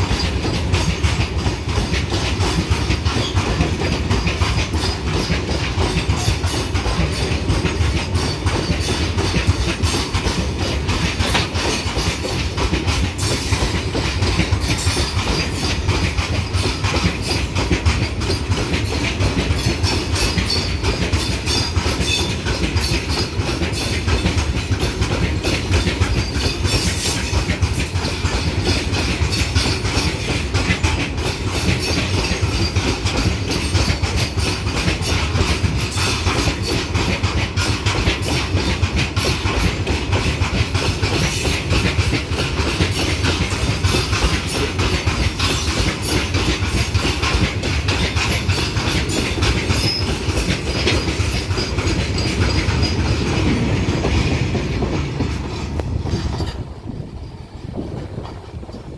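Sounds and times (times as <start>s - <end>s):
freight wagon wheels clattering: 0.0s - 58.9s.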